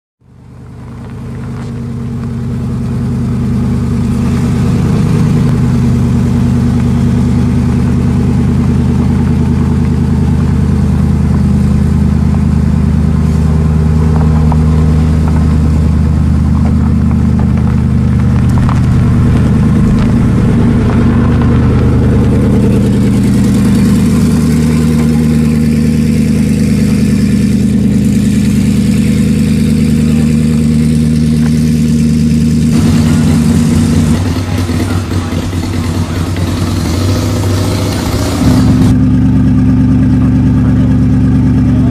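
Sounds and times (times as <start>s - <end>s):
car engine idling: 0.2s - 41.9s.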